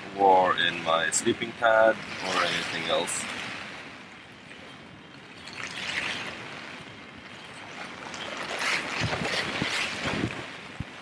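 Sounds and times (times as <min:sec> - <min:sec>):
wind gusting against tent: 0:00.0 - 0:11.0.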